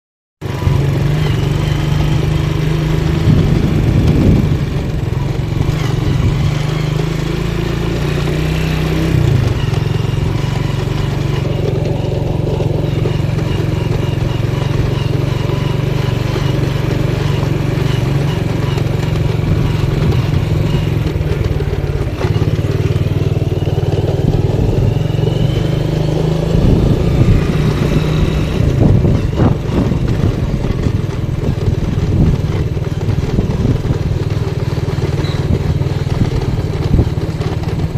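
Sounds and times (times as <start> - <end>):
motorcycle engine running: 0.4 - 37.9.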